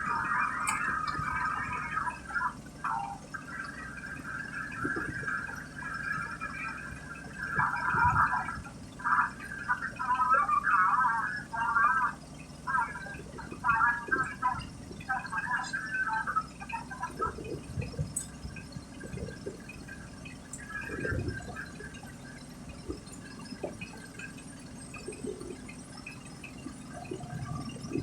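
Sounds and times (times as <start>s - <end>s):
steady background noise: 0.0s - 28.0s
water sloshing and splashing: 0.0s - 28.0s.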